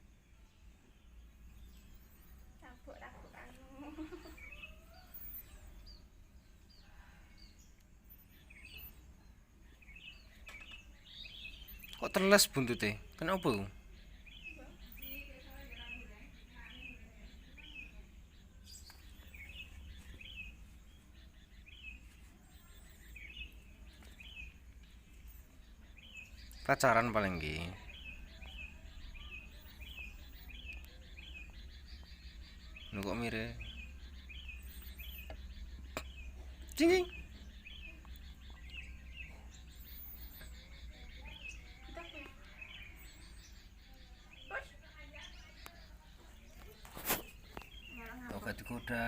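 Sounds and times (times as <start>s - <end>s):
steady low hum: 0.0s - 48.9s
small bird chirping: 0.0s - 49.0s.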